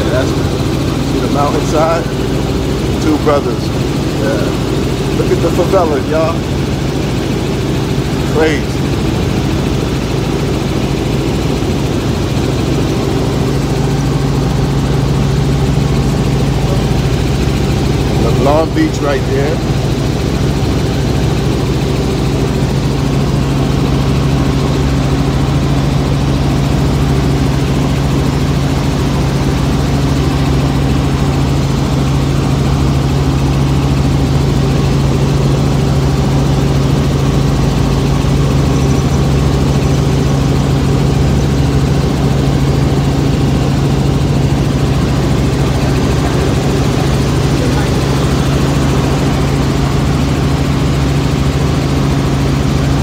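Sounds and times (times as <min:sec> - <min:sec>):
helicopter rotor and engine: 0:00.0 - 0:53.0.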